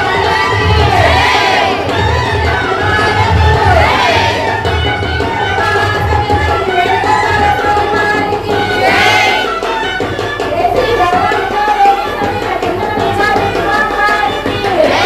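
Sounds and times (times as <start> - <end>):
continuous melody: 0.0 - 15.0
tabla drumming: 0.0 - 15.0.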